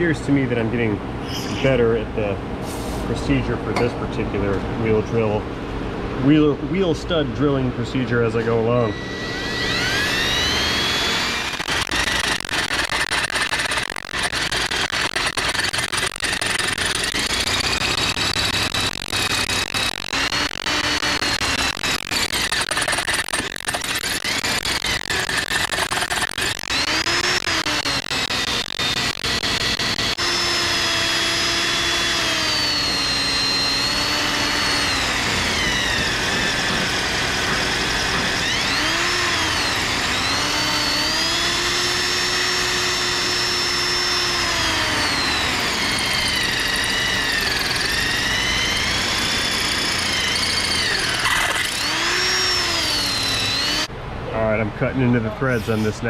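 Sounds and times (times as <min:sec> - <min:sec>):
cordless drill boring into steel: 0:08.5 - 0:53.9.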